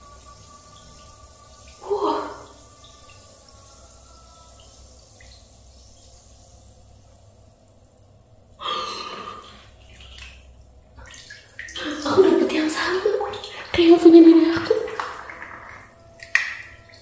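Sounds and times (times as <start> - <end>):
water dripping: 0.0 - 17.0.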